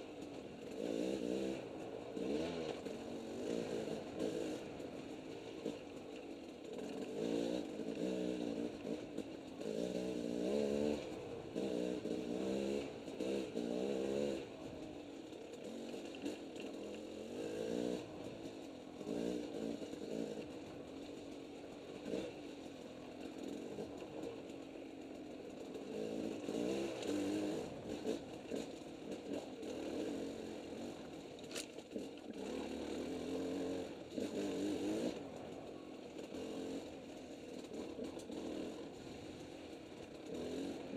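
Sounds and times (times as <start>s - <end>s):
two-stroke dirt bike revving: 0.0s - 40.9s.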